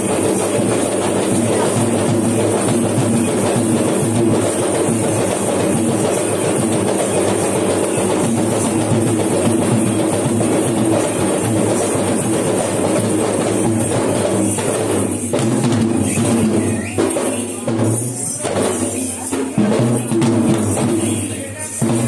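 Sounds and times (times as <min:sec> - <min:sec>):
ritual drums beating fast rhythm: 0:00.0 - 0:22.0.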